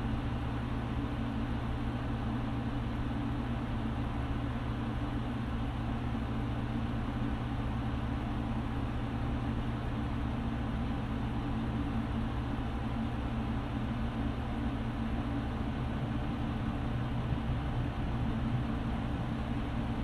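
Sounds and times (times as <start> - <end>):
low mechanical hum with hiss: 0.0 - 20.0.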